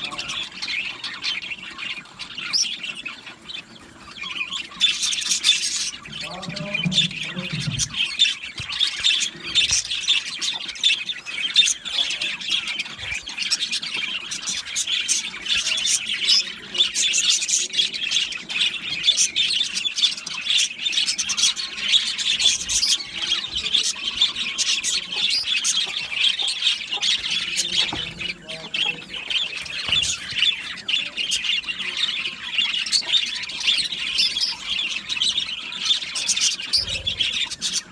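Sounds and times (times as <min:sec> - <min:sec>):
budgerigars chattering and squawking: 0:00.0 - 0:37.9.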